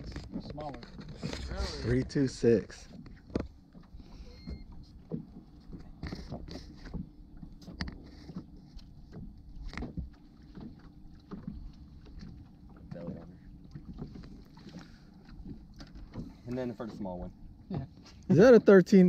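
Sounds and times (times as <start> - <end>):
knocks and clunks on boat deck: 0.0 - 19.0.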